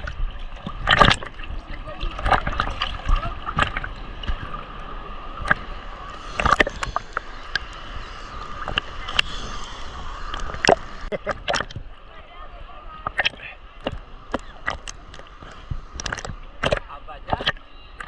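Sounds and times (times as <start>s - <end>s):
water sounds: 0.0s - 18.0s.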